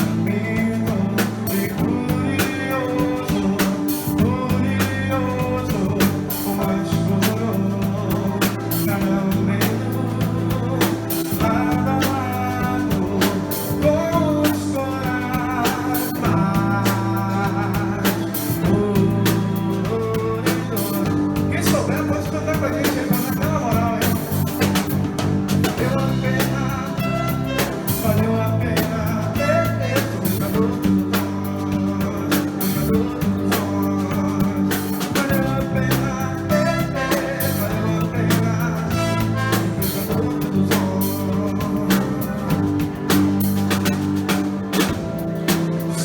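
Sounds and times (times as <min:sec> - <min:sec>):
person singing: 0:00.0 - 0:46.0
rock band playing: 0:00.0 - 0:46.0.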